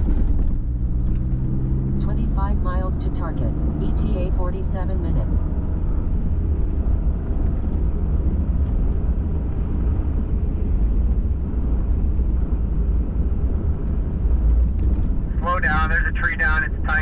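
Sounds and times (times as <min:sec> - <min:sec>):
truck engine and tyre rumble: 0:00.0 - 0:17.0.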